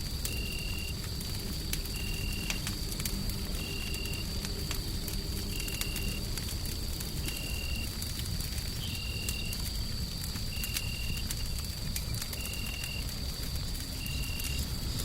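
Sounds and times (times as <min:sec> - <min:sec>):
low rumble of white noise: 0:00.0 - 0:15.0
wood fire crackling and popping: 0:00.0 - 0:15.0.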